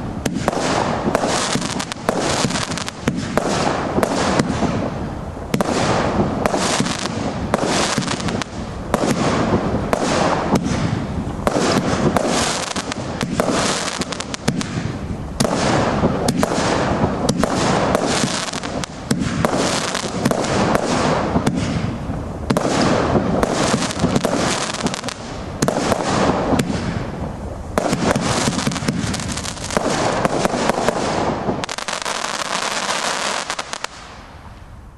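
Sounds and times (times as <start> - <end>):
fireworks bangs and crackling: 0.0 - 34.8.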